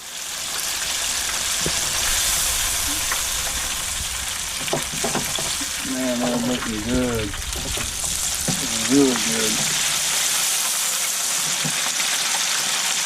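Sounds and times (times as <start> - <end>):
fish deep-frying in hot oil: 0.0 - 13.0.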